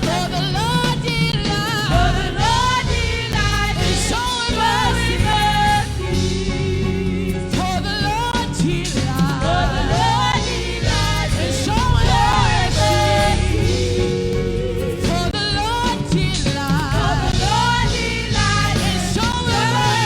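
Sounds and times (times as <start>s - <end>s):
backing singers: 0.0s - 7.1s, 8.2s - 20.0s
band with bass and keyboard: 0.0s - 20.0s.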